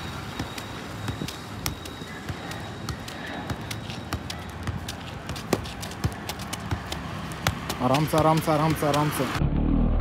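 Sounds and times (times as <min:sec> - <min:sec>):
football taps while juggling: 0:00.3 - 0:09.3.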